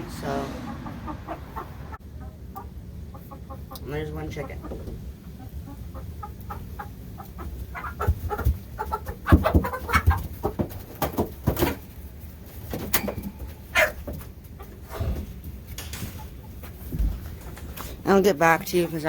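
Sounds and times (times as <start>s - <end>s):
young chickens clucking: 0.0s - 19.0s.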